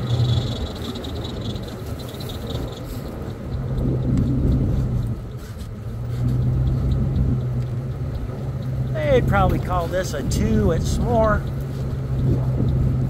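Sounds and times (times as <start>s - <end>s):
engine running under load: 0.0s - 13.0s.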